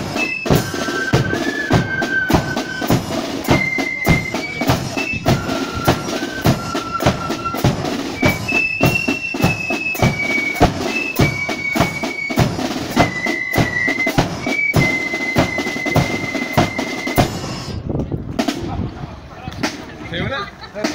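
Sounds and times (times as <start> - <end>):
shrill flute melody: 0.0 - 17.8
snare and bass drums: 0.0 - 20.9.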